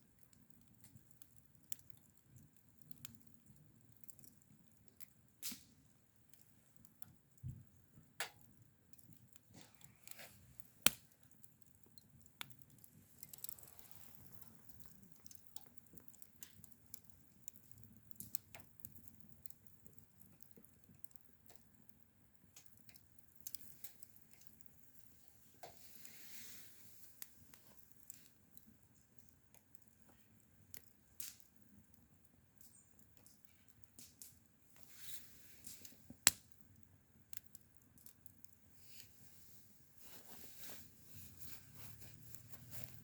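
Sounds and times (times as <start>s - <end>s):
irregular clicks and pops: 0.1s - 26.1s, 27.0s - 39.1s.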